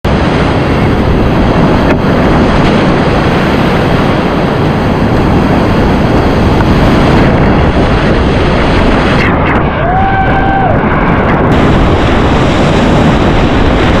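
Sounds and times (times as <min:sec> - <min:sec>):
whitewater rushing in a river: 0:00.1 - 0:14.0.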